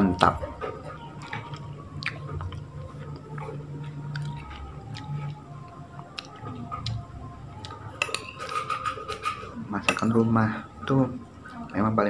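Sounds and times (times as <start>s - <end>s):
person chewing food: 0.5s - 11.8s.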